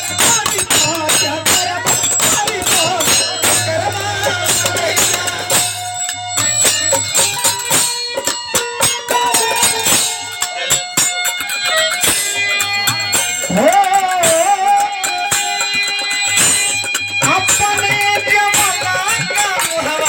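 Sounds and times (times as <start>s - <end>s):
held melodic notes: 0.0s - 20.0s
jingling percussion: 0.0s - 20.0s.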